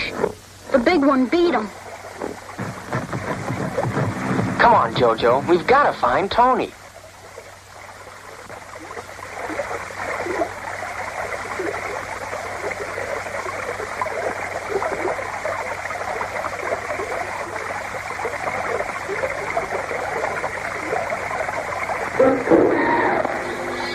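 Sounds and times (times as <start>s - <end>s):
water rippling and splashing: 0.0s - 23.9s.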